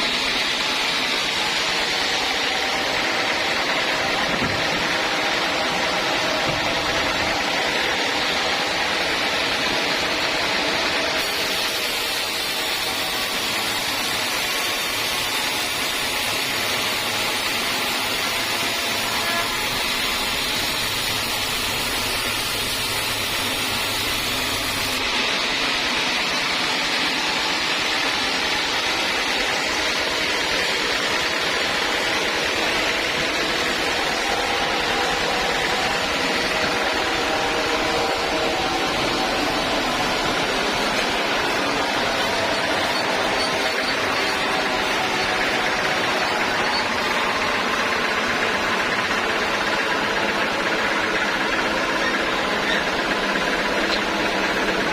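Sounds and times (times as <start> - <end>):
sawmill saw cutting wood: 0.0 - 54.9.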